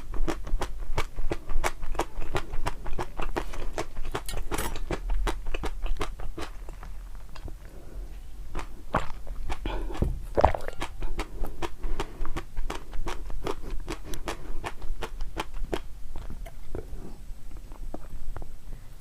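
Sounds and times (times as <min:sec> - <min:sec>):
chewing crunchy food: 0:00.0 - 0:18.2.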